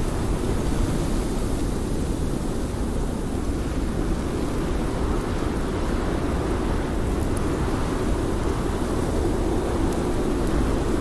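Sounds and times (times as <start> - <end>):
blizzard wind blowing: 0.0 - 11.0.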